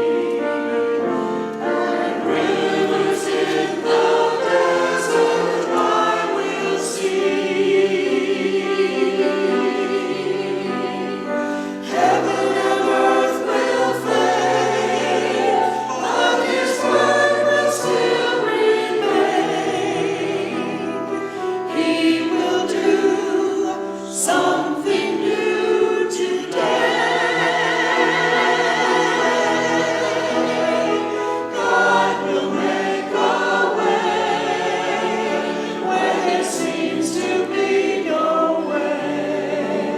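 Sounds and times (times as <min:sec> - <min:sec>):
church choir singing: 0:00.0 - 0:39.9.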